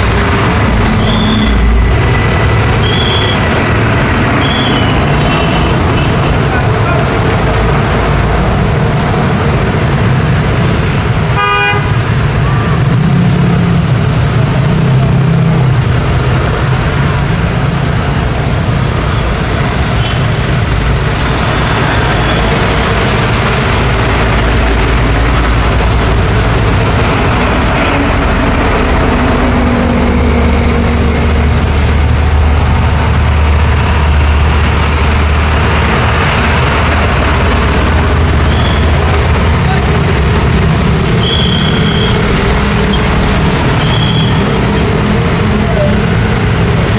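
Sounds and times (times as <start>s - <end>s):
truck engine passing: 0.0s - 11.4s, 12.0s - 46.9s
scooters and cars passing: 0.0s - 46.9s.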